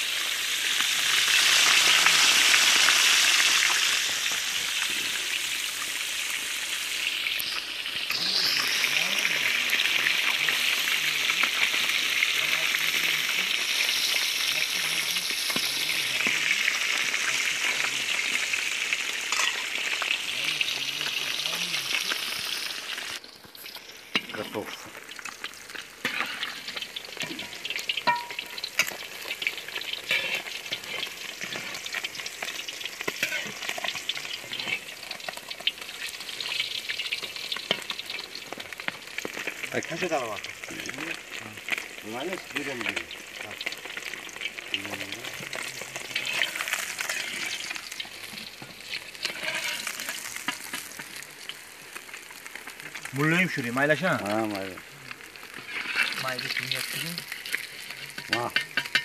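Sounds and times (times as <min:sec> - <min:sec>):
fish frying in hot oil: 0:00.0 - 0:59.0.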